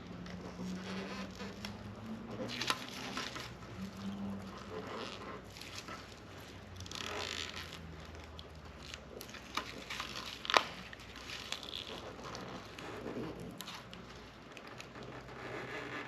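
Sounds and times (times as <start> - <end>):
rubber coating peeling and tearing: 0.0 - 15.8.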